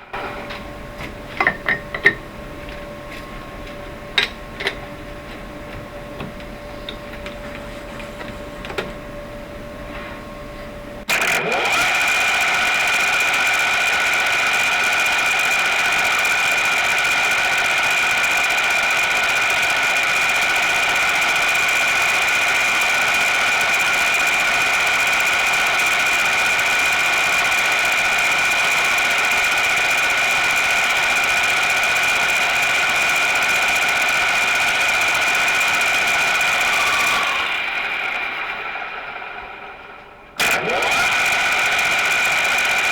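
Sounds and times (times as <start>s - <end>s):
metal lathe whining: 0.0s - 42.9s.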